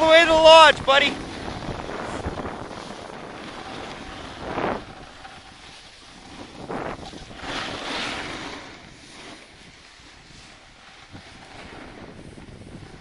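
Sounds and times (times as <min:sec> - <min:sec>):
ski edges scraping packed snow: 0:00.0 - 0:13.0
wind rushing over microphone: 0:00.0 - 0:13.0.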